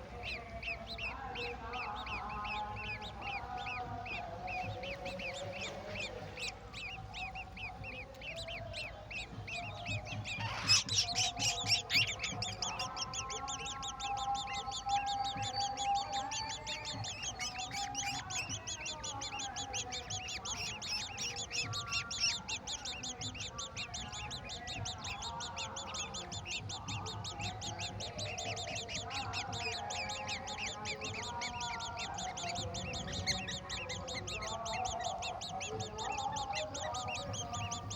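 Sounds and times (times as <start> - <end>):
birds lower nasal calls: 0.0 - 37.9
nestlings begging chirps: 0.0 - 37.9.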